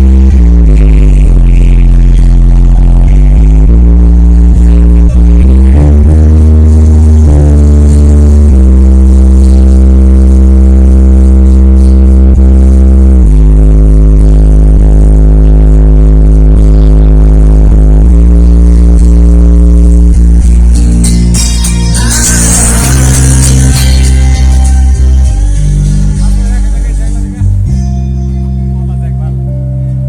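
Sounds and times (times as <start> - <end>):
loud electronic dance music: 0.0 - 28.0.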